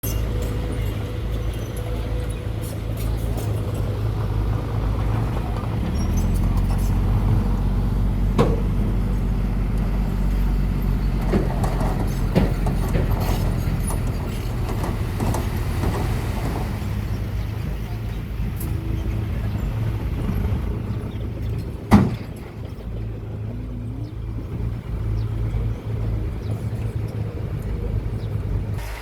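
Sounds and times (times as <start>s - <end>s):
construction machine engine humming: 0.0s - 29.0s.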